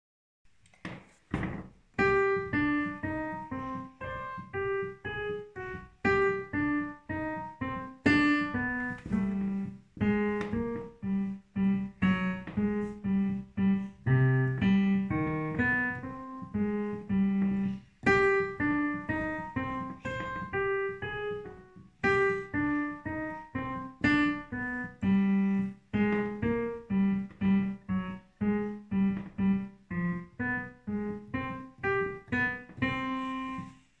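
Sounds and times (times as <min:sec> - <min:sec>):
digital piano piece: 0:00.8 - 0:34.0.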